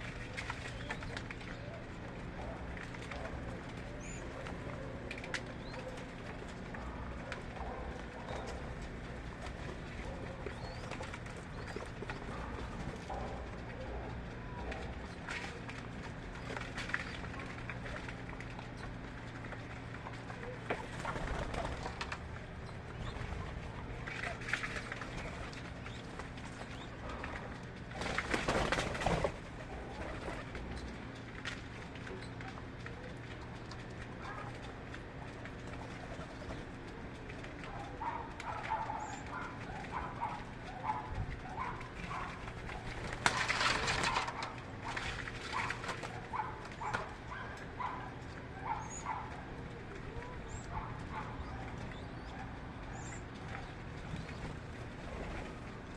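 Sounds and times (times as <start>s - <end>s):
steady low hum: 0.0s - 55.9s
birds chirping: 0.2s - 34.9s, 35.6s - 55.9s.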